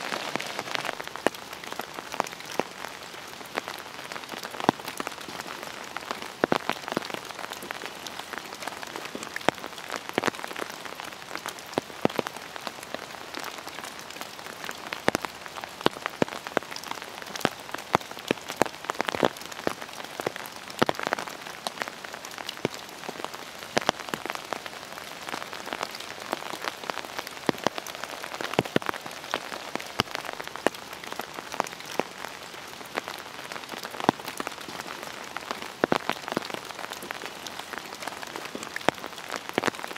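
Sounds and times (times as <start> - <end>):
rain hissing on umbrella: 0.0 - 39.9
raindrops hitting umbrella: 0.0 - 39.9.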